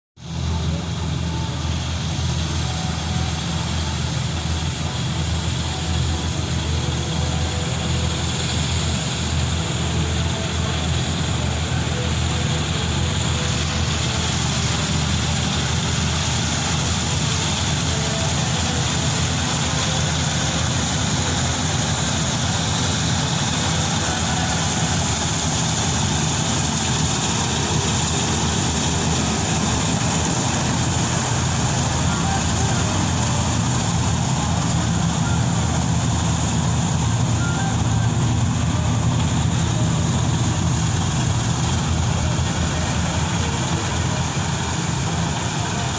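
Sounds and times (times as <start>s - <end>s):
diesel engine drone: 0.2s - 45.9s
threshing machinery hiss: 0.3s - 45.9s.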